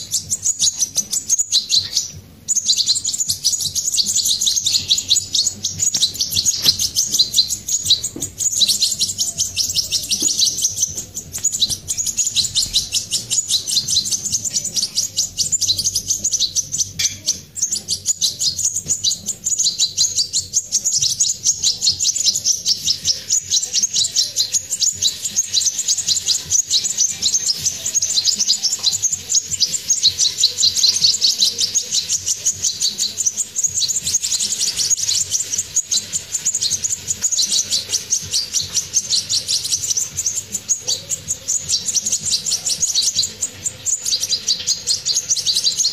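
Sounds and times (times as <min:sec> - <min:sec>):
nestlings chirping: 0:00.0 - 0:45.9.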